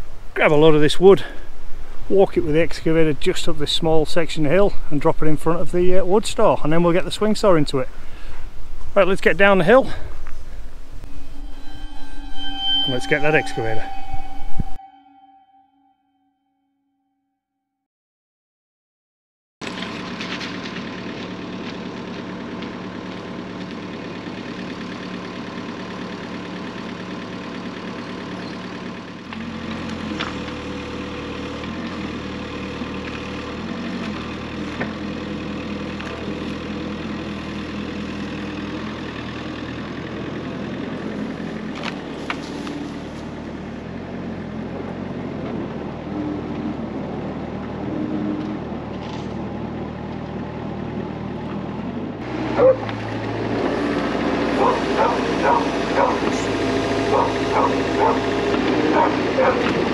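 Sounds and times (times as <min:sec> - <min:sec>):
diesel engine running: 0:00.0 - 0:11.6, 0:19.7 - 0:59.9.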